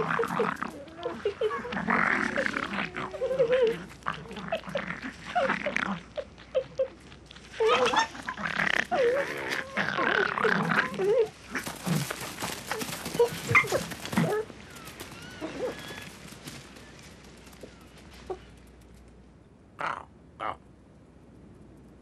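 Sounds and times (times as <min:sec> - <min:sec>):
foxes yelping and snarling: 0:00.0 - 0:18.6.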